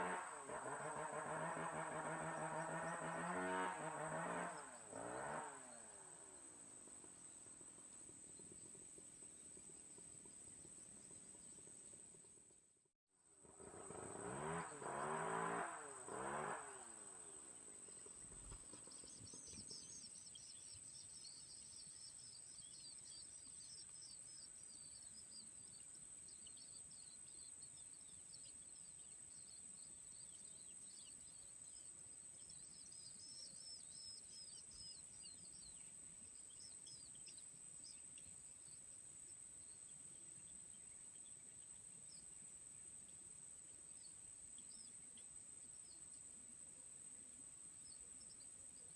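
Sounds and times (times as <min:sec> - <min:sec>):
small birds chirping: 0:00.0 - 0:12.5, 0:14.0 - 0:48.9.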